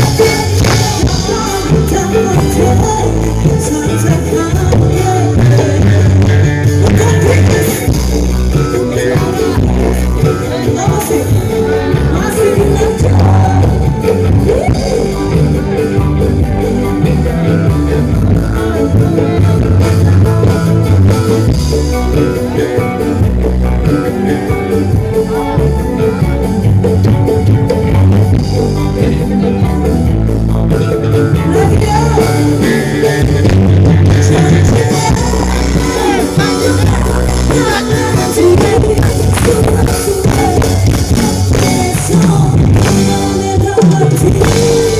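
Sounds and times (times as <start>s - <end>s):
loud music with singing and bass: 0.0s - 44.9s.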